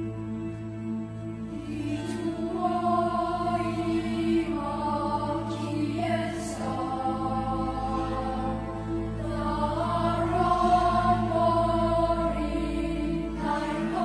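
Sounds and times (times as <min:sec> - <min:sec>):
slow ambient music: 0:00.0 - 0:14.0.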